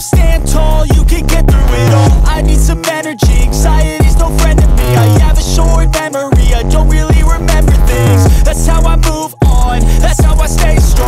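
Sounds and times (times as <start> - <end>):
hip-hop beat with heavy bass: 0.0 - 11.0.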